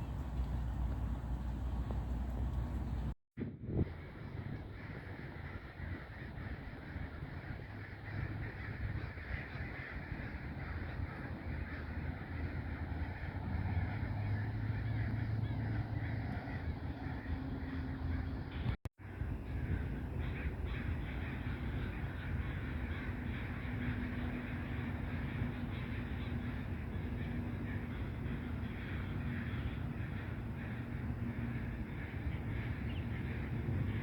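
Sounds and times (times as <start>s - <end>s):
low rumble and hum: 0.0s - 34.0s
crows cawing: 4.6s - 18.7s, 19.4s - 34.0s.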